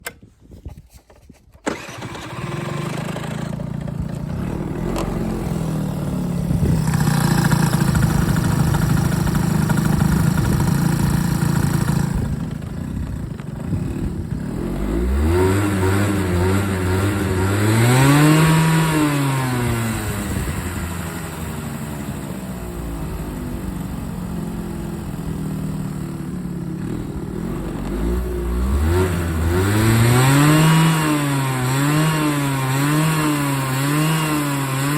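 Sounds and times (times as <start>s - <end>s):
small engine starting and revving: 1.6s - 34.9s.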